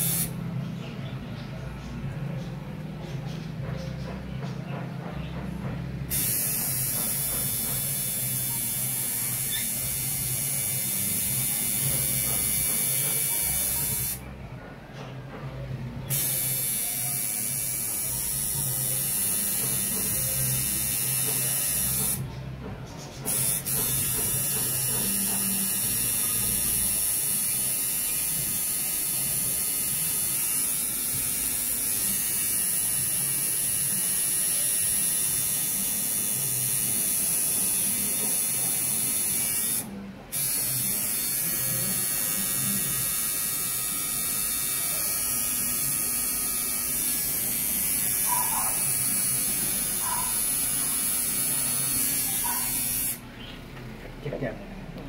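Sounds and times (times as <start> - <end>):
tattoo machine buzzing: 0.0 - 0.4, 6.1 - 14.2, 16.1 - 22.2, 23.2 - 53.2.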